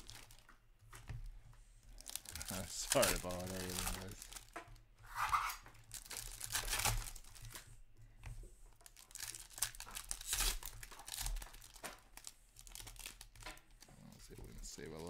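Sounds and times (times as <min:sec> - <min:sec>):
foil wrapper tearing and crinkling: 0:00.0 - 0:00.4, 0:01.9 - 0:07.6, 0:08.8 - 0:15.0.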